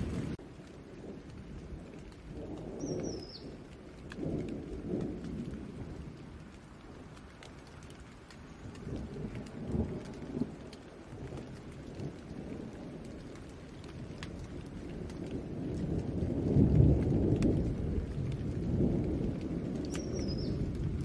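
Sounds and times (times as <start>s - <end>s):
distant thunder rumbling: 0.0s - 21.0s
steady rain: 0.0s - 21.0s.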